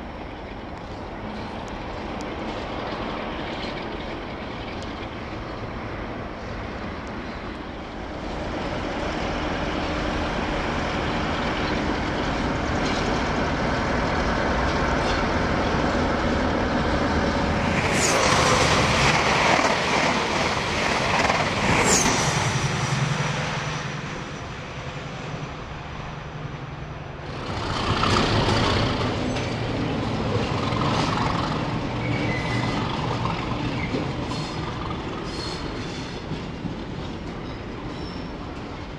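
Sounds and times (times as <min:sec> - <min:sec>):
diesel locomotive engine: 0:00.0 - 0:38.9
passenger train rushing past: 0:00.0 - 0:38.9
rumble of rail vehicles: 0:00.0 - 0:38.9.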